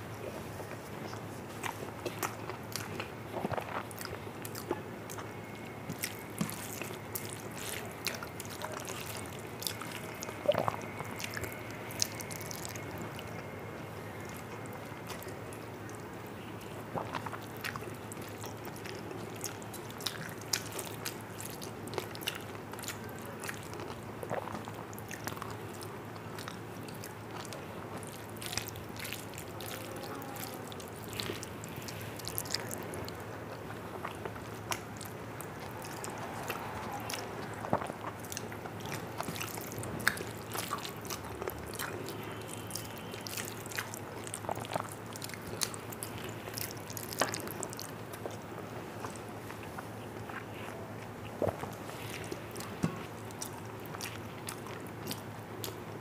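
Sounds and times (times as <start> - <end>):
chewing and wet mouth sounds: 0.0 - 56.0.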